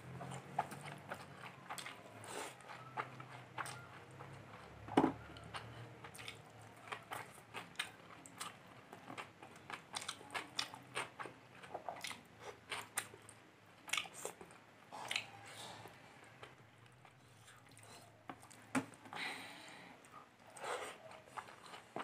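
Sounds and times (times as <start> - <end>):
person chewing with wet smacks: 0.0 - 19.2, 20.0 - 22.0.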